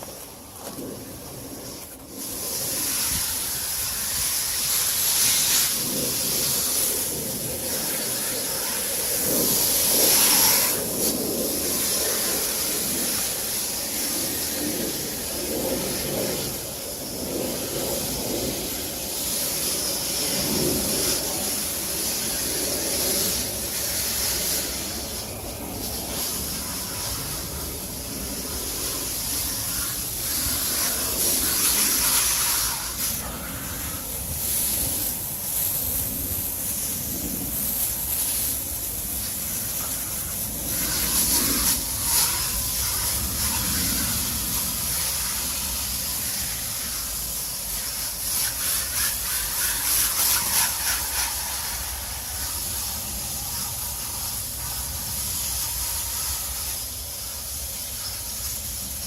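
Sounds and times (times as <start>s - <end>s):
garden hose spraying water: 0.0s - 59.0s.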